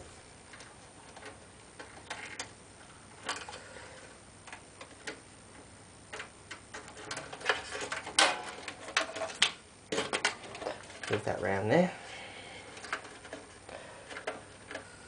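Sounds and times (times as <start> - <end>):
cables and plastic connectors clicking: 0.4 - 2.6, 3.2 - 3.7, 4.4 - 11.7, 12.6 - 15.0.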